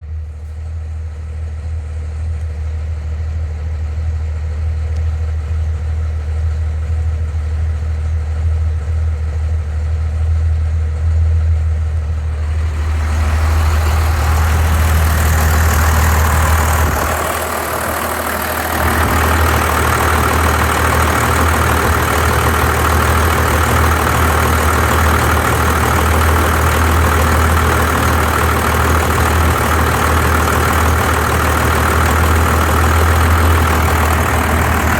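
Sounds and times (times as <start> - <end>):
diesel engine idling with misfire: 0.0 - 34.9.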